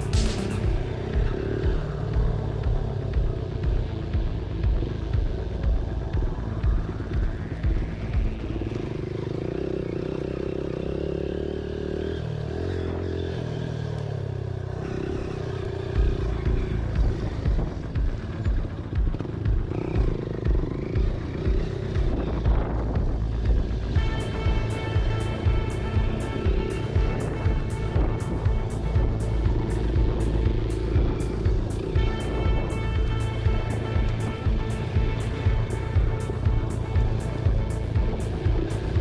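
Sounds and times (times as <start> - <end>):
low thumps: 0.0 - 9.0, 15.9 - 39.0
motorcycle engine revving: 0.0 - 39.0.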